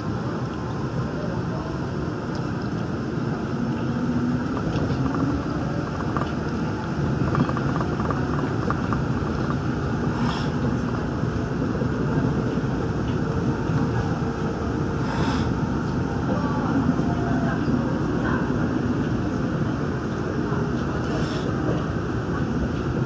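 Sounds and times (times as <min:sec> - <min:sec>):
monorail tyres rumbling: 0:00.0 - 0:23.0.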